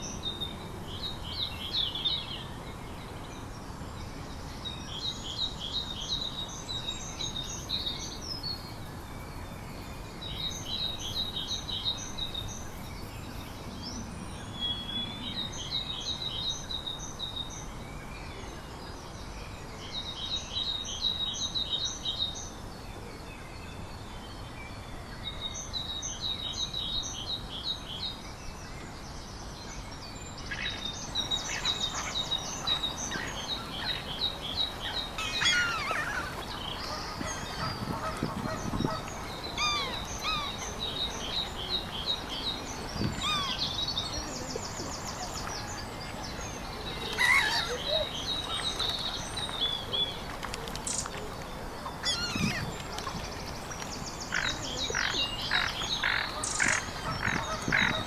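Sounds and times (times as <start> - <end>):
outdoor background hiss: 0.0 - 58.0.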